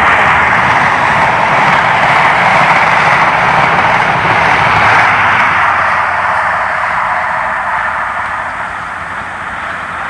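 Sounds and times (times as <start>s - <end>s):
train passing at speed: 0.0s - 10.0s.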